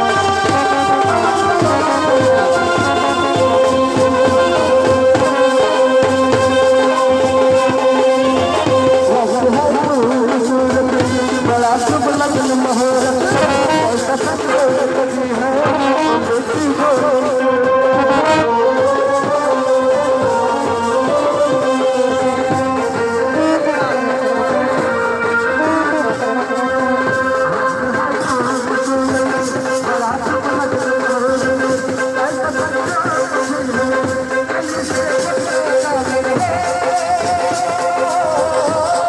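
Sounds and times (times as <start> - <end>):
brass band playing melody: 0.0 - 39.0.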